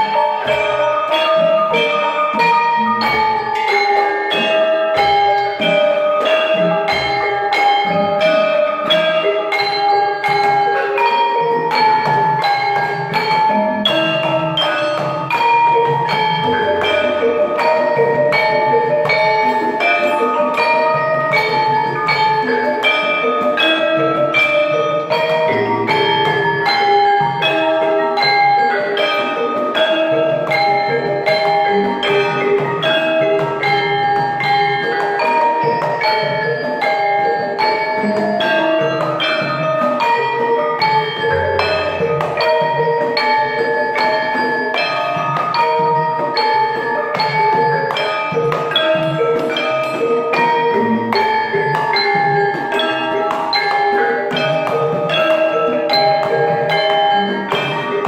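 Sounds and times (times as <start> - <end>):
hand drums keeping time: 0.0 - 58.0
metallophones and gongs ringing: 0.0 - 58.0.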